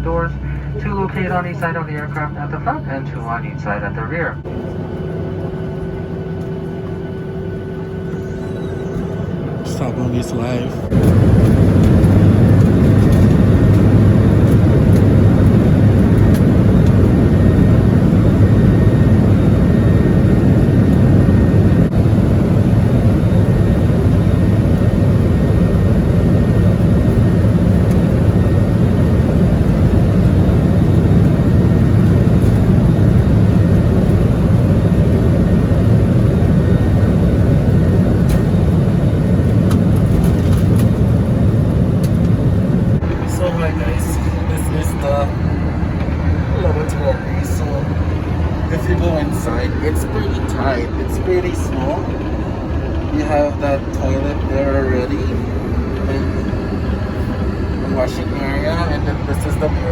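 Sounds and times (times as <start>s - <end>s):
jet engine drone in cabin: 0.0s - 59.9s
low hum: 0.0s - 59.9s.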